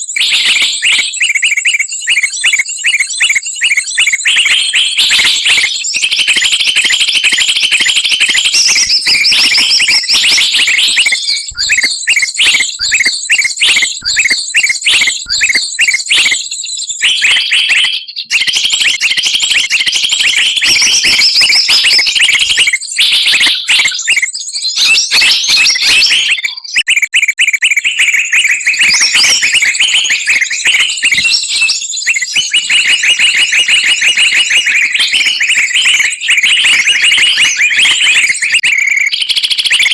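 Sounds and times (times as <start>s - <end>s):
chorus of small songbirds: 0.0s - 39.9s.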